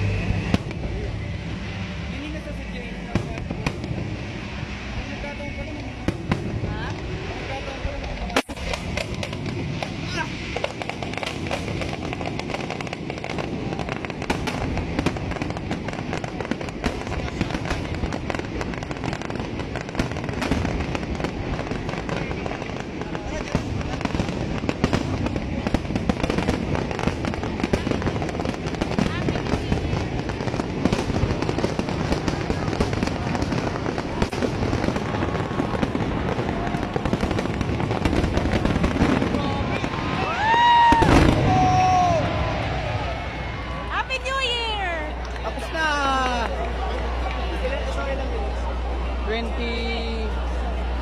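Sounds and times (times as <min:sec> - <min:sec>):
low rumble: 0:00.0 - 0:49.6
fireworks bangs and crackles: 0:00.0 - 0:51.0.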